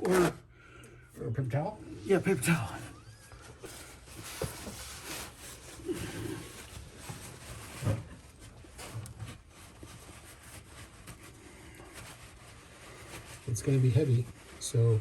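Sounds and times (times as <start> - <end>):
rustling handling noises: 0.0 - 15.0.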